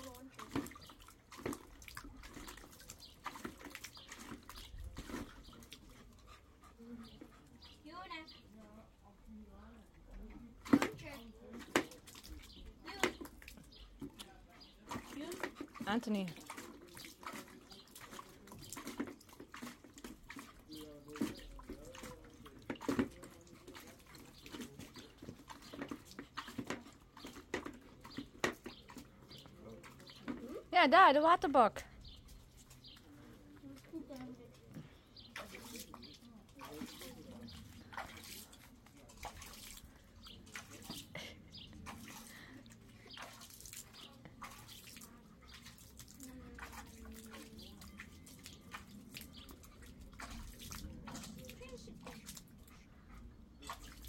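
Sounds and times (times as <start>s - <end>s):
dog splashing water in bowl: 0.0s - 30.7s, 31.6s - 54.0s.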